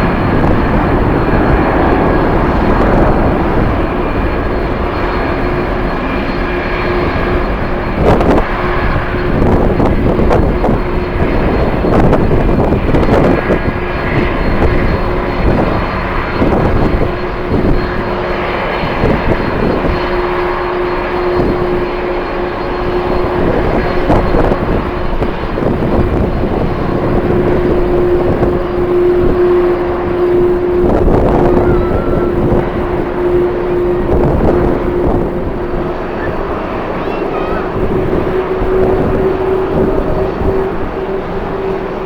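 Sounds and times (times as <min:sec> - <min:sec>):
jet engines whining: 0:00.0 - 0:42.0
wind buffeting microphone: 0:00.0 - 0:42.0.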